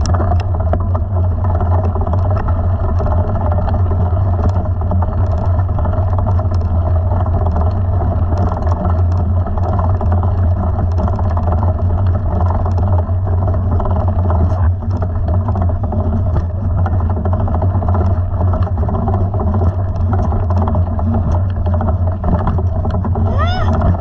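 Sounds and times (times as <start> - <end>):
bike rattling over gravel: 0.0 - 24.0
low wind rumble: 0.0 - 24.0.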